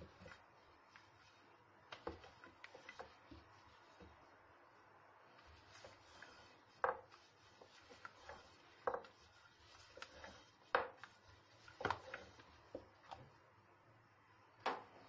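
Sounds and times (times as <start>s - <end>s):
rolling pin rubbing dough: 0.0s - 15.0s.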